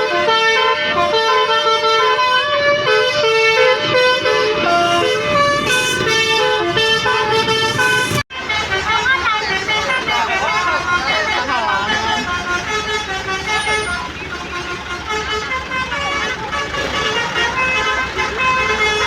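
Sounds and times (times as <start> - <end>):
bus musical horn melody: 0.0 - 19.0.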